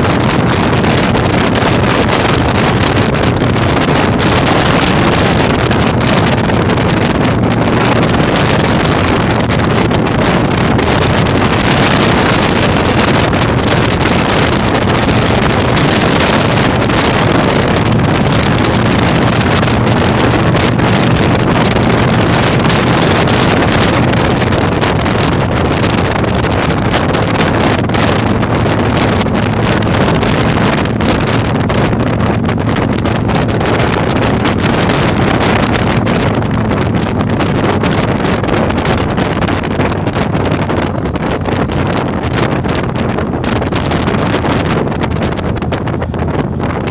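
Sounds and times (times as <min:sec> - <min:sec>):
motorcycle engine droning: 0:00.0 - 0:46.9
wind buffeting microphone: 0:00.0 - 0:46.9.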